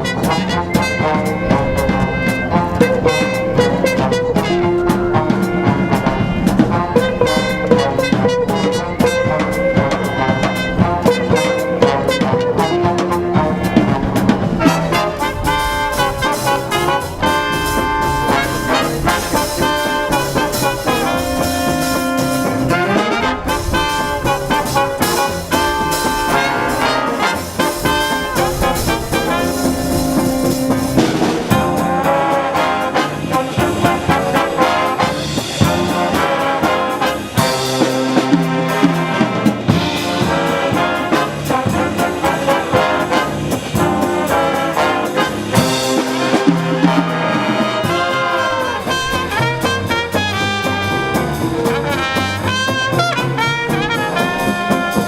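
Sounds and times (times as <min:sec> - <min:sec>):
jazz big band playing swing: 0:00.0 - 0:55.0.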